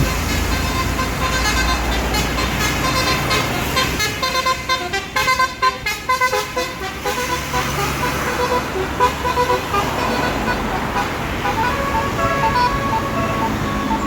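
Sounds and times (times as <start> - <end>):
bus engine running: 0.0 - 14.0
bus musical horn tune: 0.0 - 14.0.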